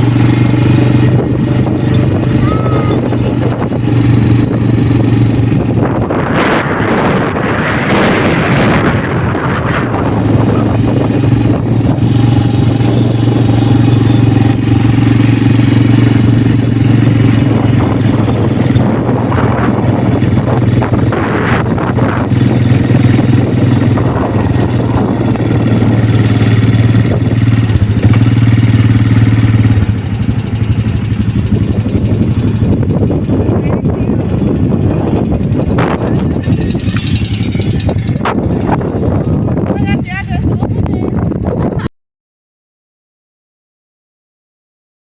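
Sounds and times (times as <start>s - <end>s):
quad bike engine running: 0.0s - 41.9s.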